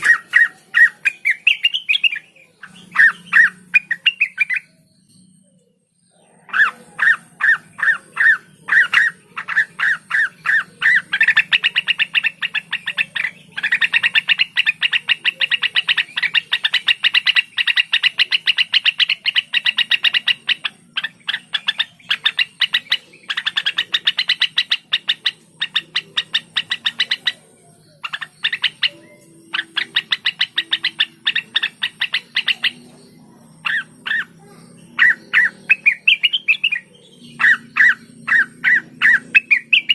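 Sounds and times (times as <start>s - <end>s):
bird singing fast sharp notes: 0.0s - 39.9s.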